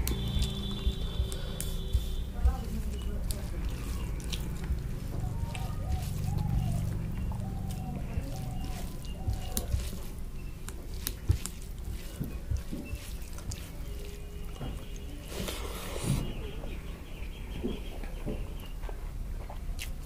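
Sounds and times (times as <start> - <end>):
fingers squishing rice: 0.0 - 16.8
low hum: 0.0 - 18.6.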